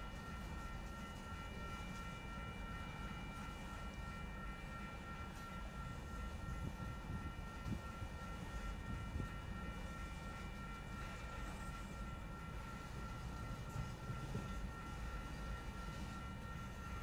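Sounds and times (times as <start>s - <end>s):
train rumbling by: 0.0s - 17.0s.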